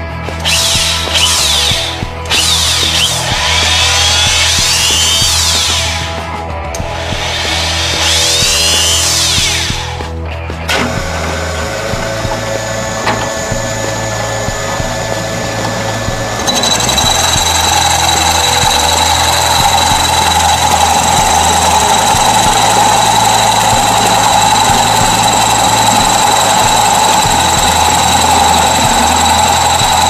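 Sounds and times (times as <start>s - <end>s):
drill press boring into wood: 0.4s - 6.2s, 7.0s - 10.0s, 10.7s - 30.0s.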